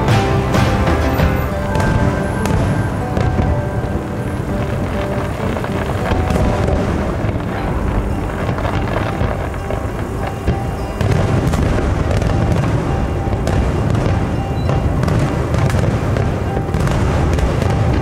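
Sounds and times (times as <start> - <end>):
fireworks booming and cracking: 0.0 - 18.0
music: 0.0 - 18.0.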